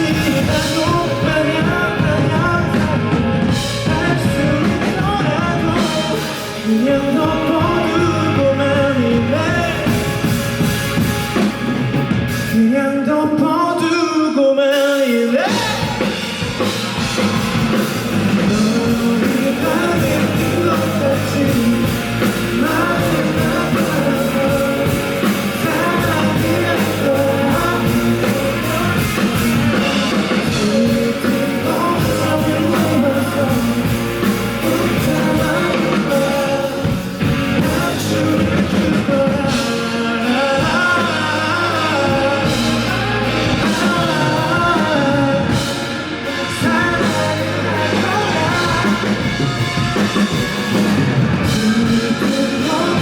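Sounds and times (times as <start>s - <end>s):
live rock band playing: 0.0s - 14.0s, 14.6s - 53.0s.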